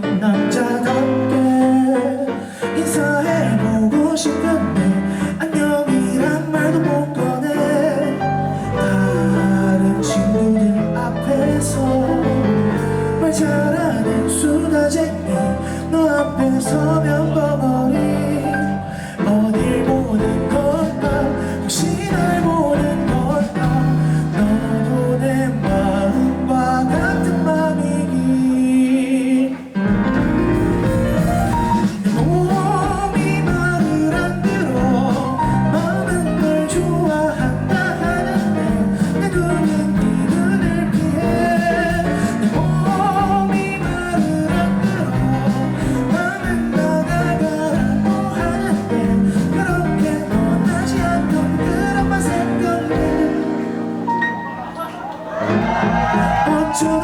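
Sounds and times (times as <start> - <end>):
live rock band playing: 5.9 - 14.6, 18.0 - 27.8, 29.6 - 57.0.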